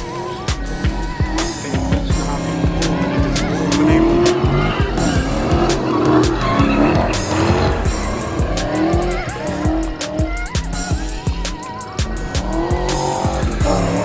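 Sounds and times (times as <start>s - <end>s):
background music with steady beat: 0.0s - 14.0s
car engines revving: 0.0s - 14.0s
car tyres squealing: 0.0s - 14.0s.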